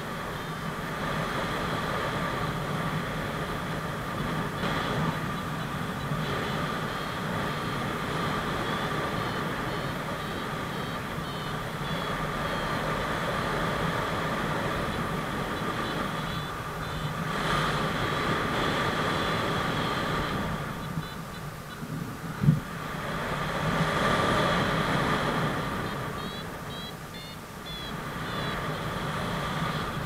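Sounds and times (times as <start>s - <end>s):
wind rushing over microphone: 0.0s - 26.7s
variometer beeping rapidly: 3.4s - 22.6s, 24.2s - 30.0s.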